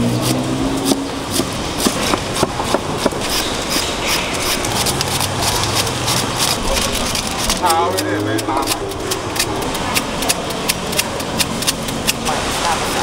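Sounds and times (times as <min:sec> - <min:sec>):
knife chopping on cutting board: 0:00.0 - 0:12.3
background noise: 0:00.0 - 0:13.0.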